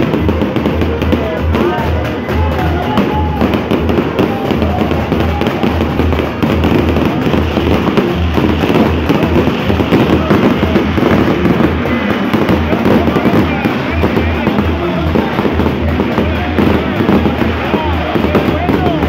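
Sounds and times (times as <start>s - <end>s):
fireworks crackling: 0.0s - 19.0s
music with low beat: 0.0s - 19.0s.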